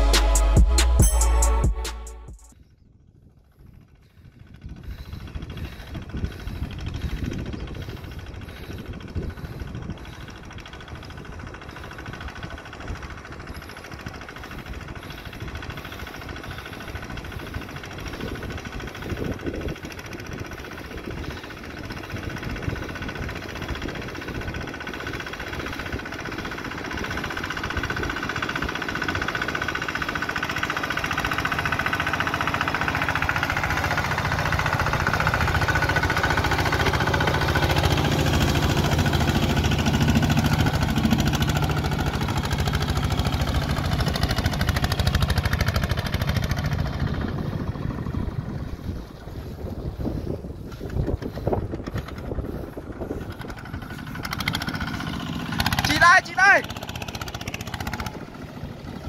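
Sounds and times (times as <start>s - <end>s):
diesel tractor engine chugging: 0.0s - 59.0s.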